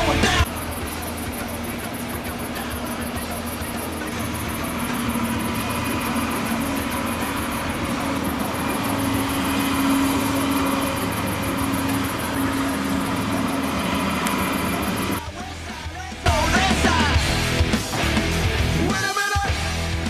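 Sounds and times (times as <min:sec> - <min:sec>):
distant machinery engine running: 0:00.0 - 0:18.4.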